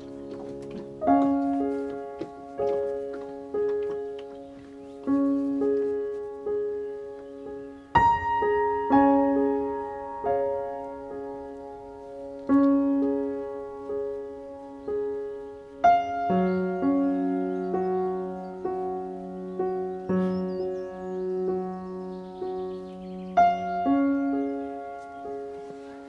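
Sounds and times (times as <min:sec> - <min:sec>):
slow piano music: 0:00.0 - 0:26.0.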